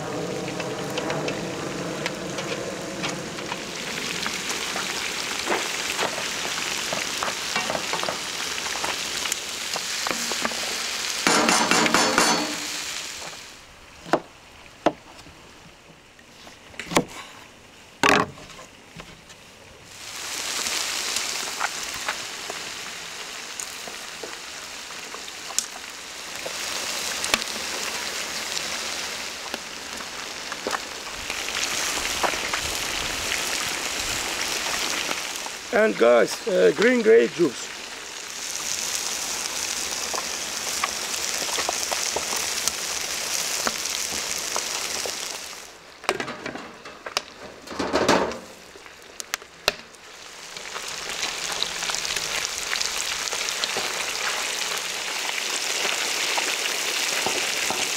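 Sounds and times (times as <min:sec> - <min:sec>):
fish frying in hot oil: 0:00.0 - 0:14.0, 0:19.9 - 0:46.0, 0:48.3 - 0:57.9.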